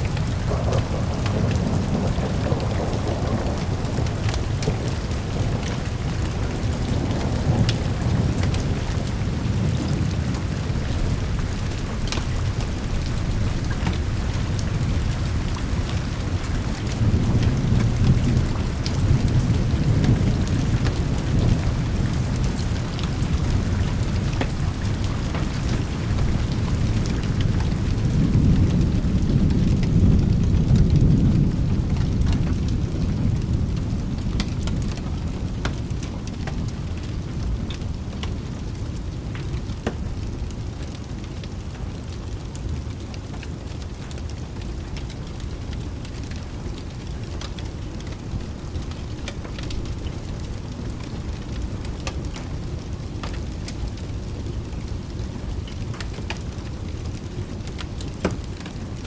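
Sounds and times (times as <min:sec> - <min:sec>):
thunder rumbling: 0:00.0 - 0:41.6, 0:44.3 - 0:59.0
steady rain: 0:00.0 - 0:59.0.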